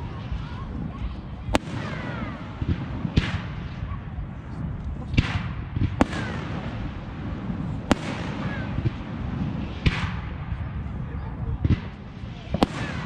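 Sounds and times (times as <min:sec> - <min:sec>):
fireworks bangs: 0:00.0 - 0:13.0
steady low rumble: 0:00.0 - 0:13.0.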